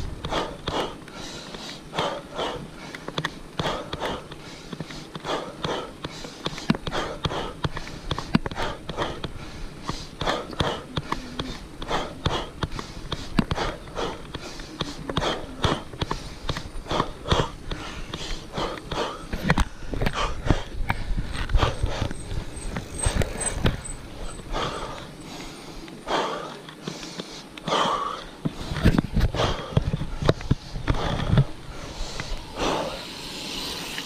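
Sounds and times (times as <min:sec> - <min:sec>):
cyclist breathing hard: 0:00.0 - 0:34.0.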